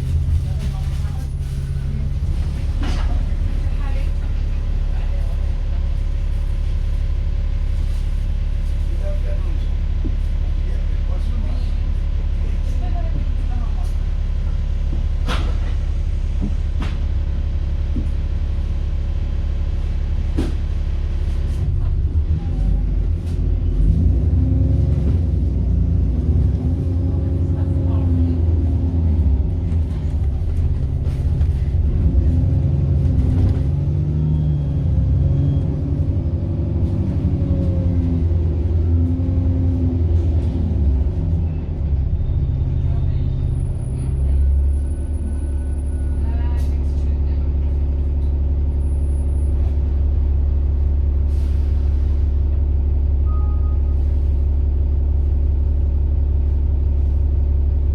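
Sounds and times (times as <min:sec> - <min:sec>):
diesel bus engine: 0:00.0 - 0:57.9.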